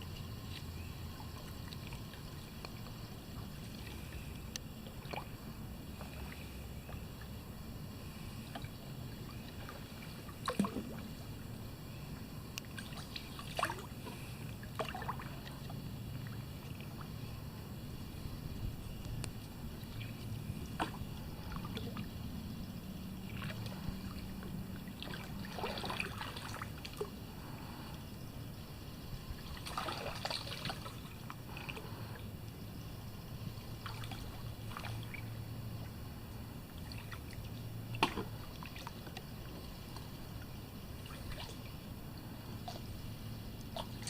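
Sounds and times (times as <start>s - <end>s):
low steady hum: 0.0s - 44.0s
paddle strokes splashing: 0.1s - 7.4s, 8.0s - 17.3s, 19.4s - 22.1s, 22.9s - 27.9s, 29.3s - 32.2s, 33.5s - 35.3s, 36.0s - 43.1s.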